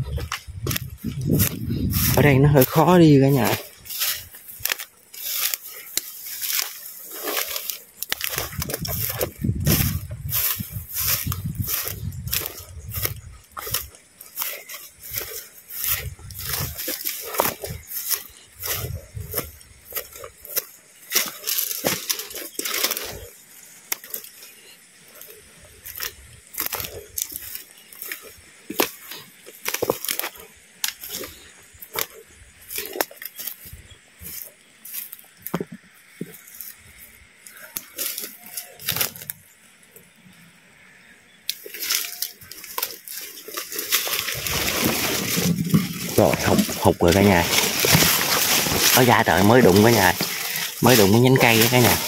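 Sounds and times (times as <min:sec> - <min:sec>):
dry leaves crunching underfoot: 0:00.0 - 0:40.0, 0:41.5 - 0:52.0
twigs snapping: 0:00.1 - 0:02.7, 0:03.4 - 0:36.8, 0:37.4 - 0:39.4, 0:41.5 - 0:52.0.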